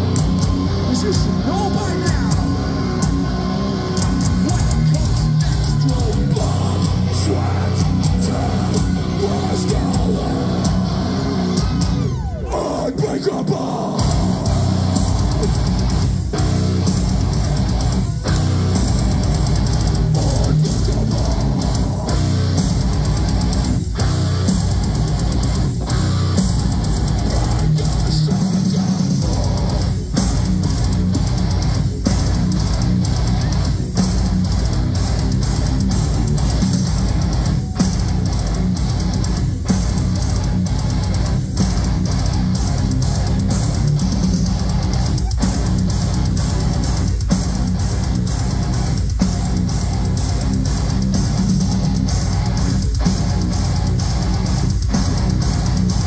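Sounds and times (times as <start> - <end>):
live metal band playing: 0.0 - 56.0.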